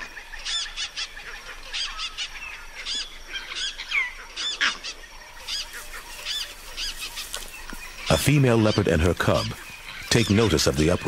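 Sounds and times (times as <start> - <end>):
animal alarm calls: 0.0 - 11.0.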